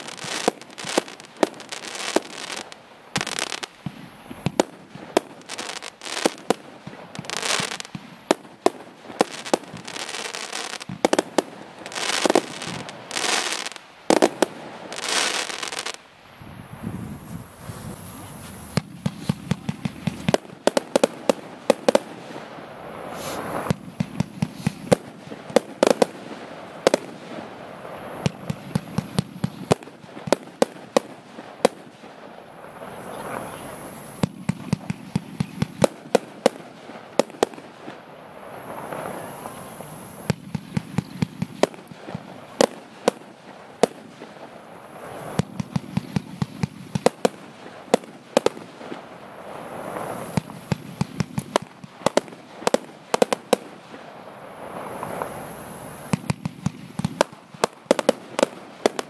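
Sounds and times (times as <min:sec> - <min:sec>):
noisy firework bursts: 0:00.0 - 0:16.1, 0:17.4 - 0:59.0.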